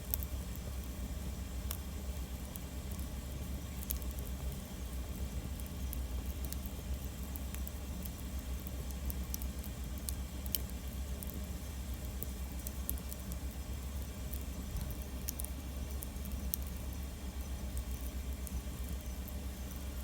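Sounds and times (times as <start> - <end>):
sharp pops and snaps of fire: 0.0 - 20.0
wood campfire crackling: 0.0 - 20.0.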